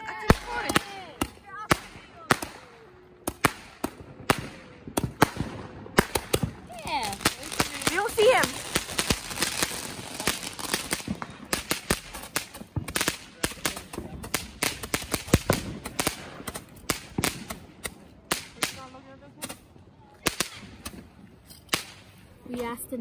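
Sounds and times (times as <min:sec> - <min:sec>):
fireworks popping and banging: 0:00.0 - 0:22.8.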